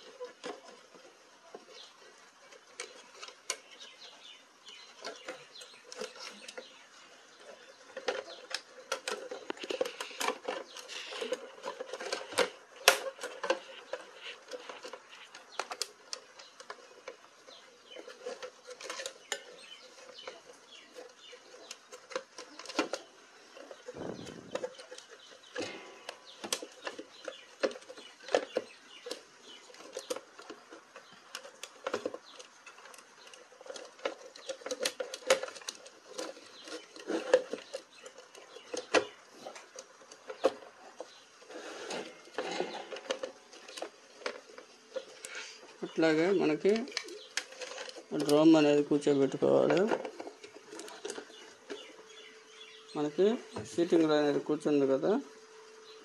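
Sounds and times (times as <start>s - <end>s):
plastic and metal parts clicking: 7.5s - 52.7s.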